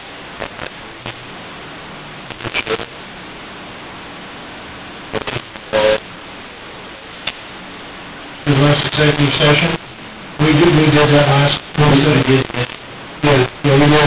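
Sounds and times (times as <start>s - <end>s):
microphone hiss: 0.0s - 14.0s.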